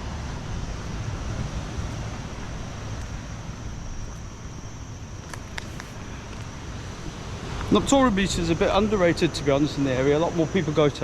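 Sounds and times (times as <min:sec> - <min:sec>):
steady outdoor rushing noise: 0:00.0 - 0:11.0.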